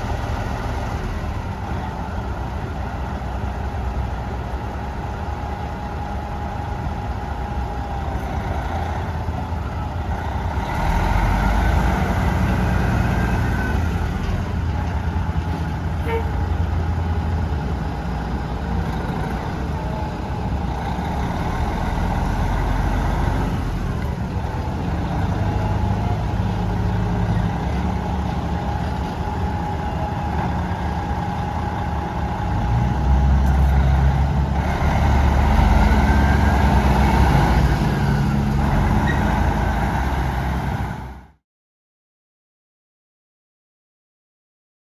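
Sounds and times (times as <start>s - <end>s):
diesel truck engine running: 0.0s - 41.4s.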